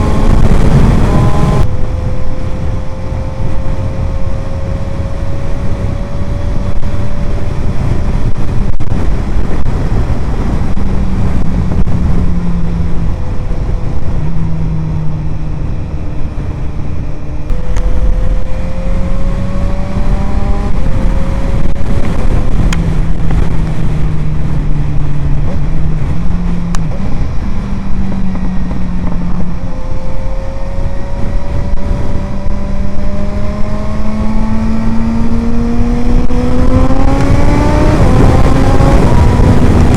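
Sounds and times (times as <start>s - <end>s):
heavy wind rumble: 0.0s - 39.9s
motorcycle engine shifting up: 0.0s - 39.9s.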